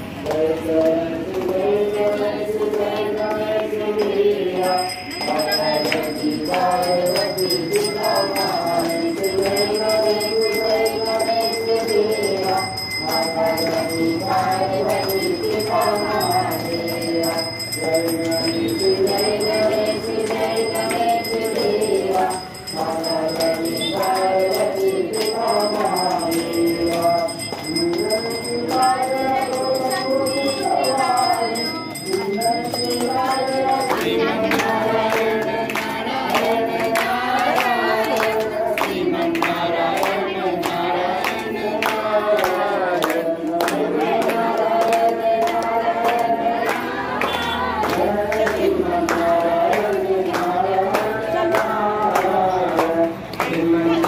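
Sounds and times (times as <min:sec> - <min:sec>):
crowd singing a hymn: 0:00.0 - 0:54.0
rhythmic hand-clapping: 0:00.0 - 0:54.0.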